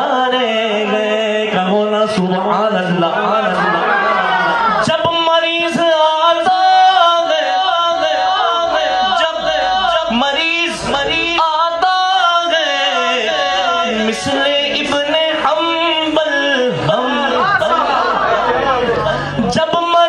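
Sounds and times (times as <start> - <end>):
man singing: 0.0 - 3.8, 4.7 - 20.0.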